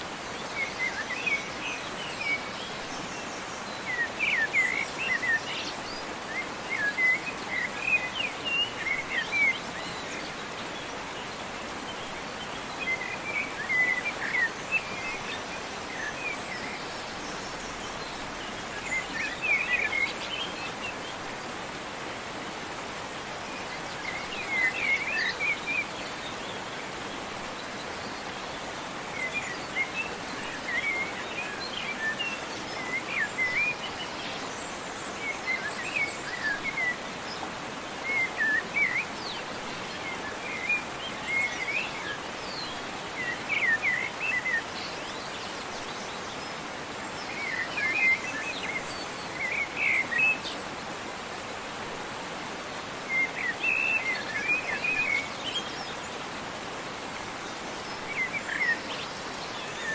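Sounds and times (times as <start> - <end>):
small birds chirping: 0.0 - 59.9
waterfall rushing: 0.0 - 59.9.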